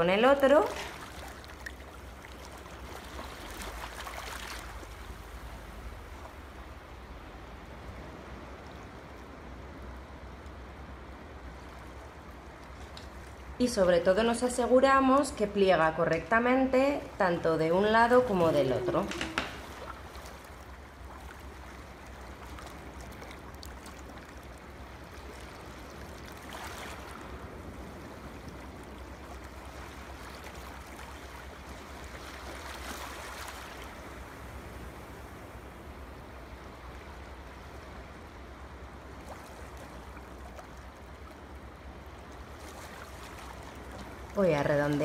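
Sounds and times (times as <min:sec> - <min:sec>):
soft noisy swells: 0:00.0 - 0:45.0.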